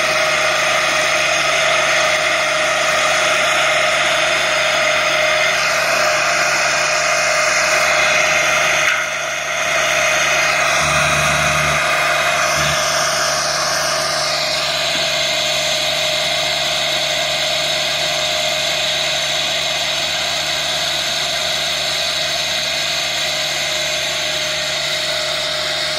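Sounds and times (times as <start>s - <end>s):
mower and tractor engine whine: 0.0s - 25.9s.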